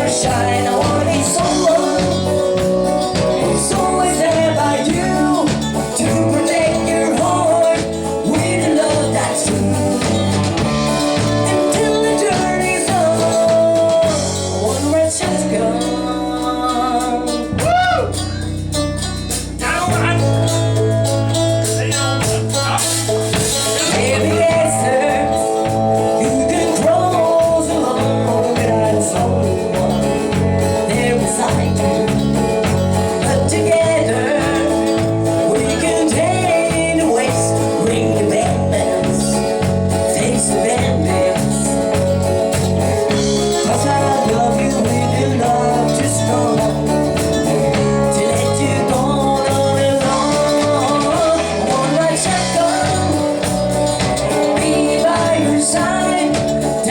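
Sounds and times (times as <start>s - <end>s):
bass line: 0.0s - 56.9s
live country band: 0.0s - 56.9s.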